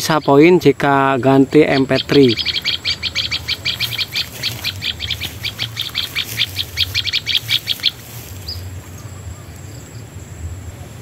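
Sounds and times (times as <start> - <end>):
recorded bird chirps: 0.0 - 11.0.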